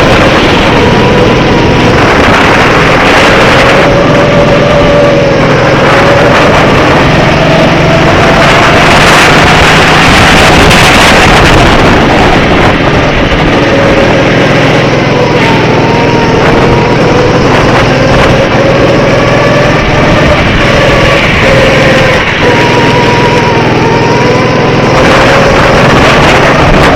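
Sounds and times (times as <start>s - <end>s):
go-kart engine running hard: 0.0s - 26.9s
rushing noise: 0.0s - 26.9s.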